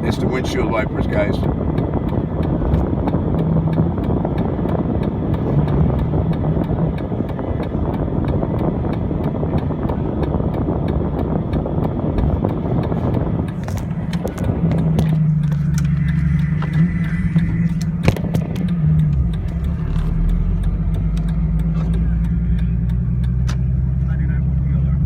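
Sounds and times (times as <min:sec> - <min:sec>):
car engine and tyre rumble: 0:00.0 - 0:25.0
faint regular ticking: 0:00.0 - 0:25.0.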